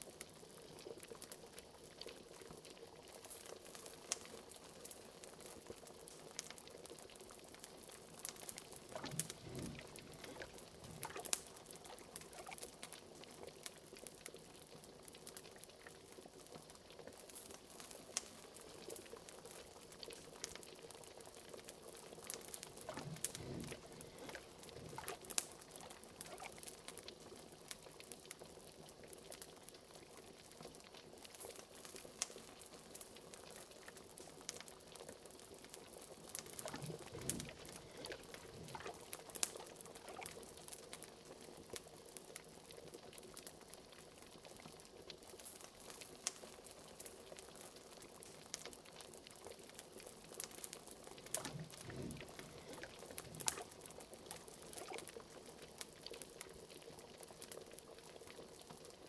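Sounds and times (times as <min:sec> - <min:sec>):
liquid bubbling at a boil: 0:00.0 - 0:59.0
wood fire crackling: 0:00.1 - 0:28.5, 0:31.2 - 0:43.8, 0:44.5 - 0:59.0.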